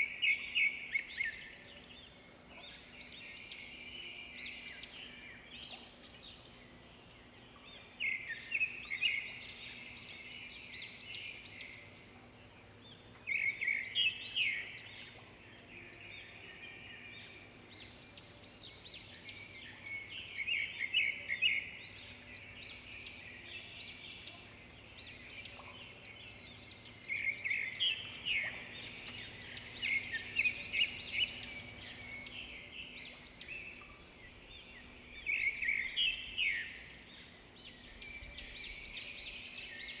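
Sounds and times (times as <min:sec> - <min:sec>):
faint forest ambience: 0:00.0 - 0:40.0
birds high chirping: 0:02.7 - 0:40.0.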